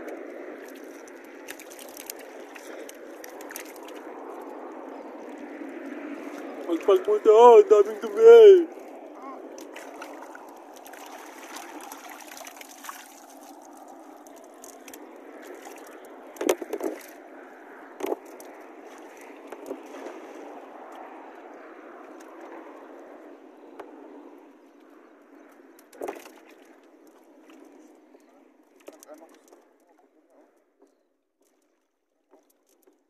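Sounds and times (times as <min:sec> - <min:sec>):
water sloshing and trickling: 0:00.0 - 0:30.3, 0:30.9 - 0:33.0.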